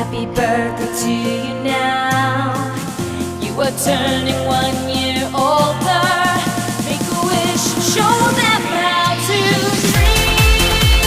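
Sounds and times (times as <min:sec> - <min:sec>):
electronic pop music: 0:00.0 - 0:11.0.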